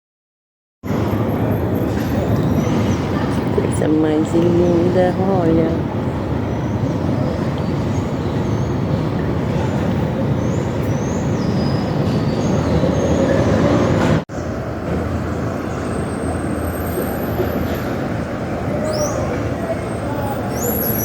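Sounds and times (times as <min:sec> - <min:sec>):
city traffic rumble: 0:00.8 - 0:21.0.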